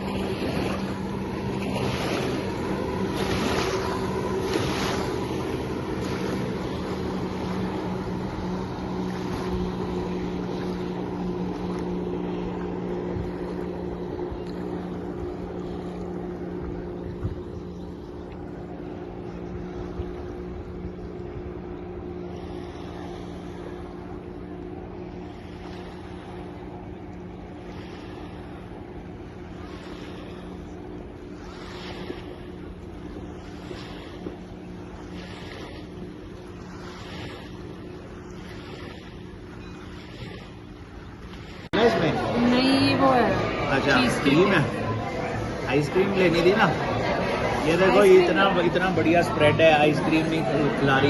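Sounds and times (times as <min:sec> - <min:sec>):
jet ski engine running: 0:00.0 - 0:51.0
rushing water: 0:00.0 - 0:51.0.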